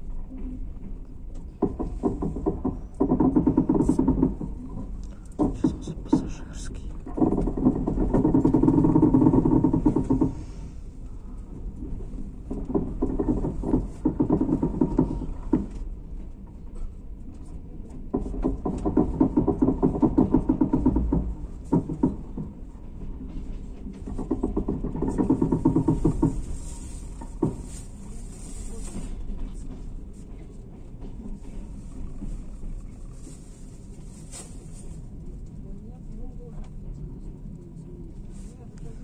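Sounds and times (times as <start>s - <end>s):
train wheels clattering over rails: 0.0s - 39.0s.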